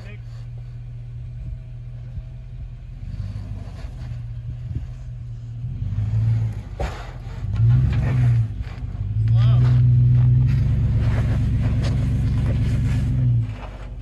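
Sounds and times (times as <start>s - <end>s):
engine revving under load: 0.0s - 14.0s.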